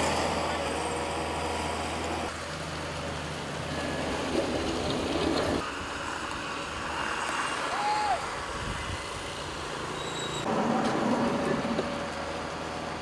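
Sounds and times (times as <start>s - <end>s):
vehicle sounds: 0.0s - 13.0s.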